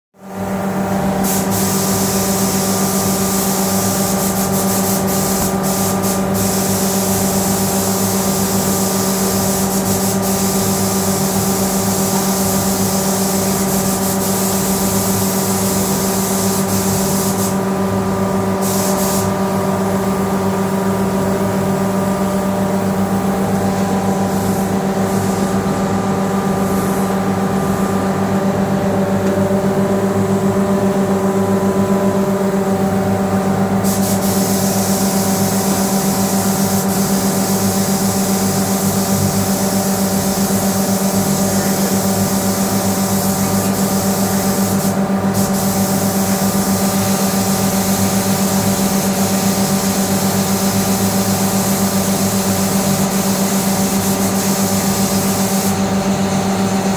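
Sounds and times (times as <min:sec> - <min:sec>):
air spray gun hissing: 0:01.2 - 0:20.4, 0:22.7 - 0:27.4, 0:33.7 - 0:55.9.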